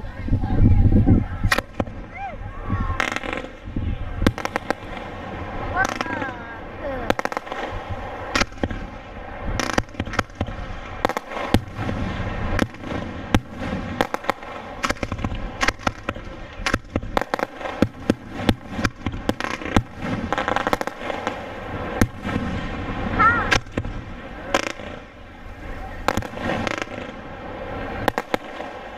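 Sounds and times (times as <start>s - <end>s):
fireworks bangs and crackling: 0.0s - 28.9s.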